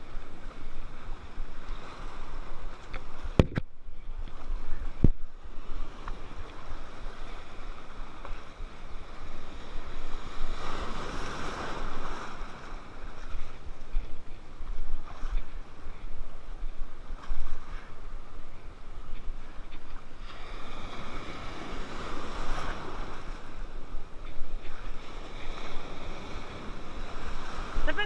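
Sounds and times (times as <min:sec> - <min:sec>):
surf washing and breaking: 0:00.0 - 0:28.0
wind buffeting microphone: 0:00.0 - 0:28.0.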